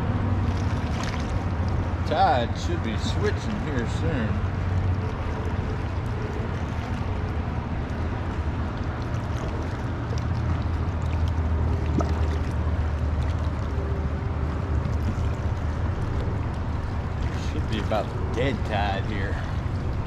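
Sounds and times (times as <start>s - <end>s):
steady low rumble: 0.0s - 20.0s
water lapping against kayak hull: 0.0s - 20.0s.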